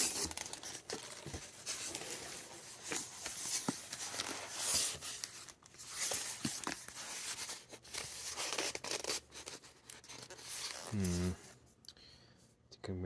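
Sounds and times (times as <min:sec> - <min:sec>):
packaging rustling and crinkling: 0:00.0 - 0:11.4.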